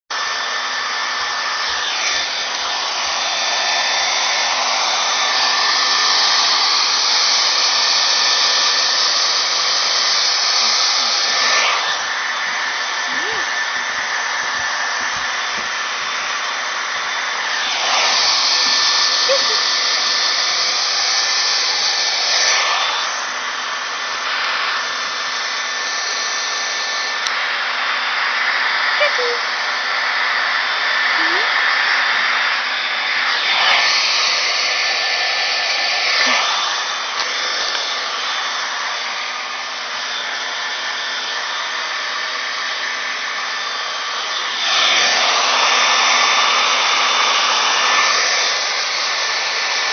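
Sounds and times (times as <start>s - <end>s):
electric blower rushing air: 0.1s - 49.9s.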